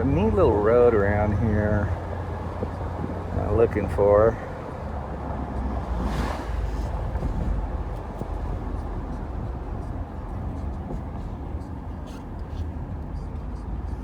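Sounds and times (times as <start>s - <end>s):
wind noise: 0.0s - 12.7s
car exhaust rumble: 0.0s - 14.0s
road noise: 0.0s - 14.0s.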